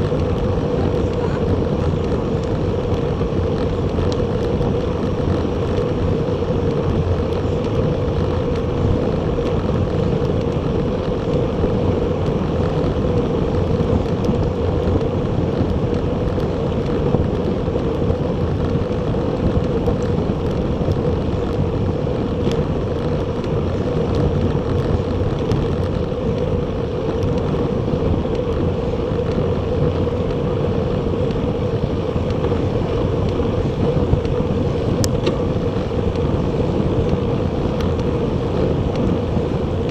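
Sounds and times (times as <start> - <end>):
bicycle tyre road noise: 0.0 - 39.9
constant hum: 0.0 - 39.9
wind rushing over microphone: 0.0 - 39.9.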